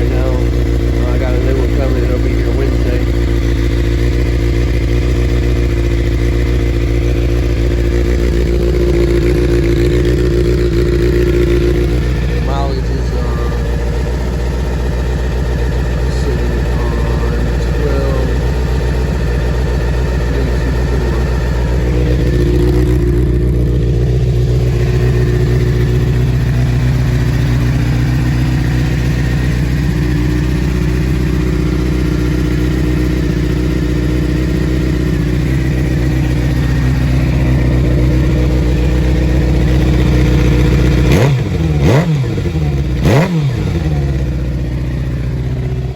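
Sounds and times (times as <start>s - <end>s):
engine revving: 0.0s - 45.9s
motorcycle engine running: 0.0s - 45.9s.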